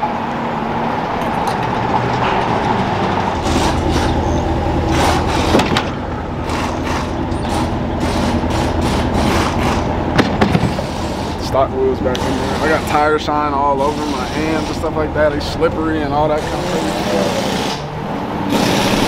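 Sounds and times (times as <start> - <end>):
vehicle engine running: 0.5 - 19.0.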